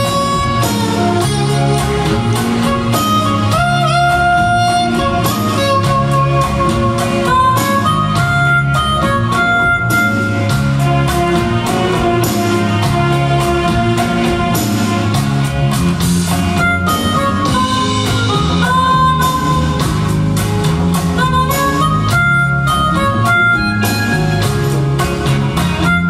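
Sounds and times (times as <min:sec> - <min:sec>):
live band playing instrumental: 0:00.0 - 0:26.0.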